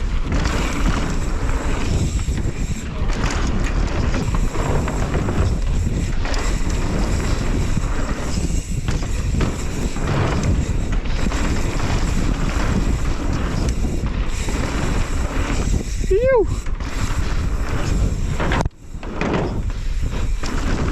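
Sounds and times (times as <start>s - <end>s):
bike rattling and knocking: 0.0s - 20.9s
bike tyre noise: 0.0s - 20.9s
wind buffeting microphone: 0.0s - 20.9s.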